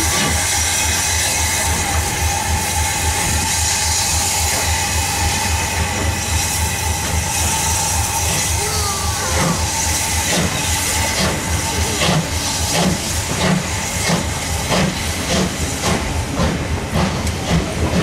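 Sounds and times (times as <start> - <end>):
regular locomotive beats: 0.0 - 18.0
steam locomotive hissing: 0.0 - 18.0.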